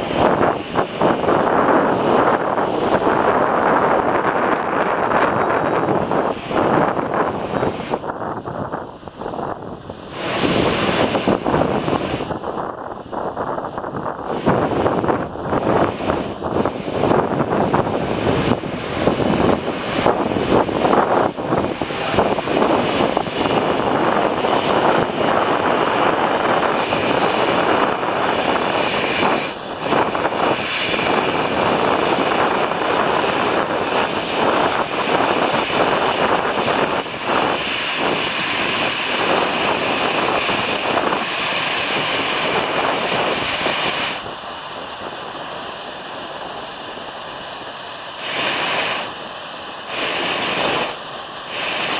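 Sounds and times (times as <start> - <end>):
jet engines taxiing: 0.0 - 51.9.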